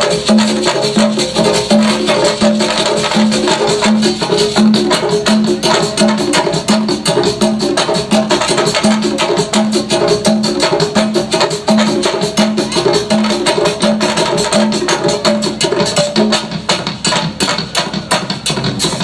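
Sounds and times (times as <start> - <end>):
hand drums playing fast rhythm: 0.0 - 19.0.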